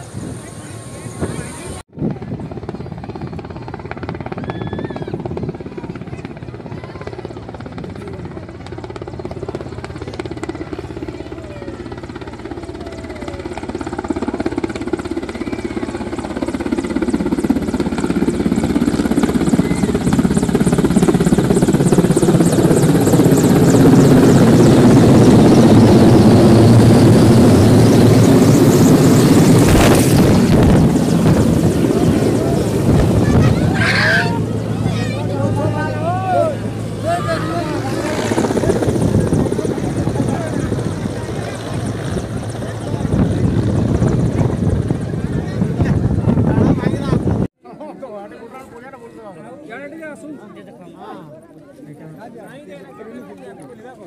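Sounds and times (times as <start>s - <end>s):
helicopter rotor beating: 0.0s - 47.5s.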